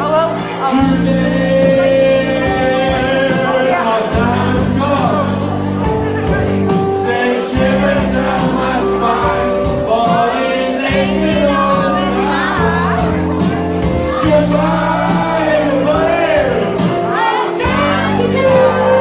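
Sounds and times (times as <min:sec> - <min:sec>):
backing track of low notes: 0:00.0 - 0:19.0
man singing into a microphone: 0:00.0 - 0:19.0.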